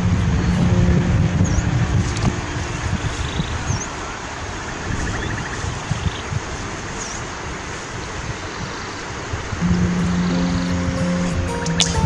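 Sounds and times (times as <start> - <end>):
steady hiss: 0.0 - 12.0
wind rumbling on microphone: 0.0 - 12.0.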